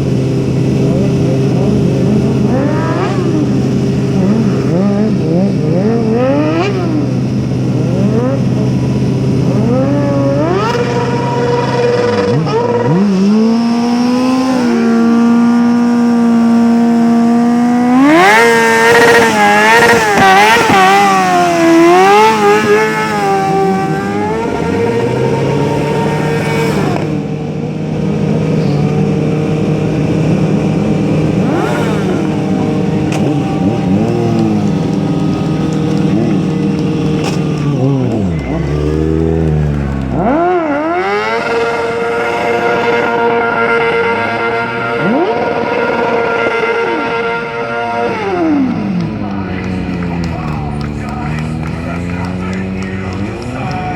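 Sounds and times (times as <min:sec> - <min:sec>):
vehicle engine revving: 0:00.0 - 0:53.9.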